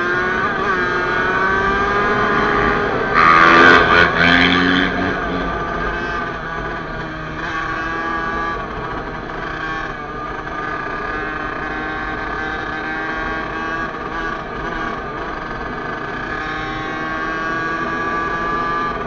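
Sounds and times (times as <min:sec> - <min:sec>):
two-stroke motorcycle engine: 0:00.0 - 0:19.0.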